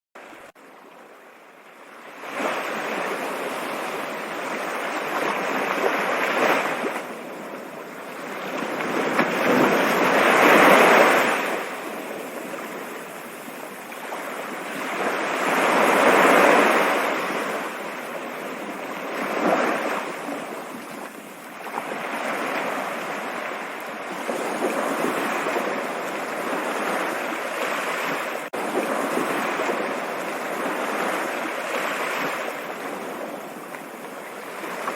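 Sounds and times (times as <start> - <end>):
water rushing like a stream: 0.2 - 34.9.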